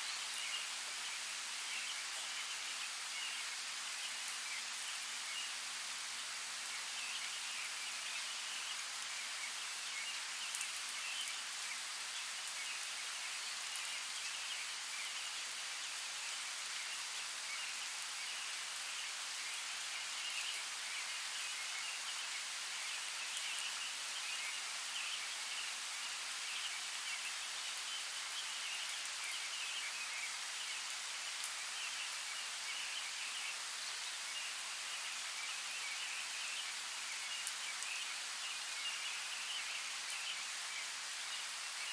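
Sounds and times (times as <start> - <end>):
rain falling in a forest: 0.0 - 41.9.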